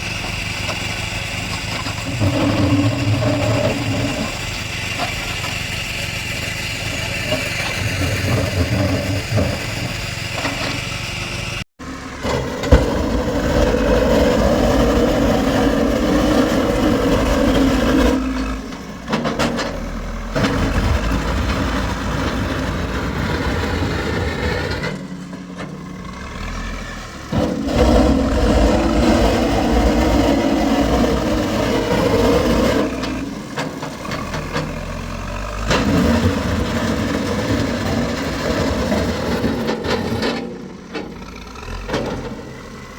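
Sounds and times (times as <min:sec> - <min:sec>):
diesel engine revving under load: 0:00.0 - 0:42.9.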